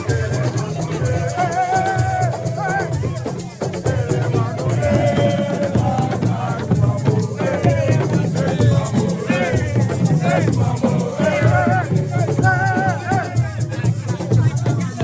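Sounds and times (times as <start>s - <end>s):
person singing: 0.0s - 13.6s
shakers and drums rhythm: 0.0s - 15.0s.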